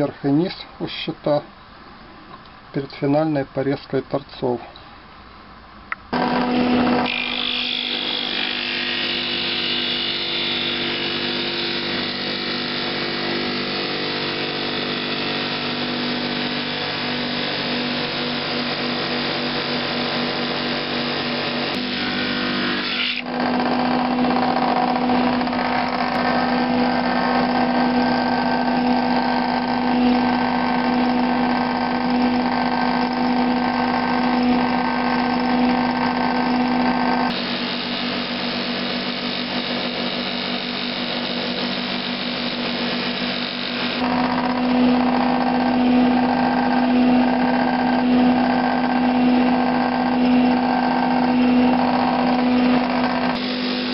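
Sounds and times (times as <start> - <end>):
drum sander motor hum: 6.1 - 53.9.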